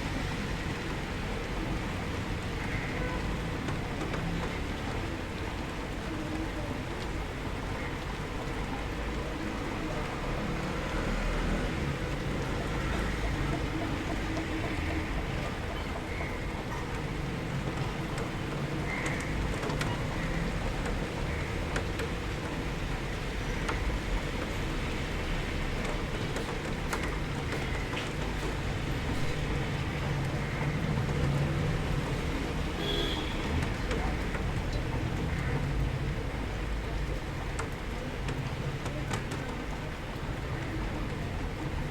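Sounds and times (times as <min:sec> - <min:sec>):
steady rainfall: 0:00.0 - 0:41.9.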